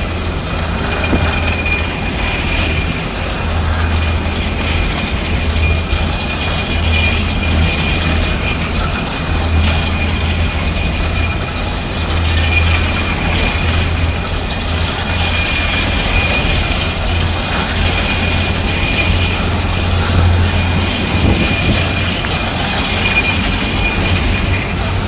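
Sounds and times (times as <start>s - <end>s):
high-pitched whine: 0.0s - 25.0s
wagons rumbling past: 0.0s - 25.0s.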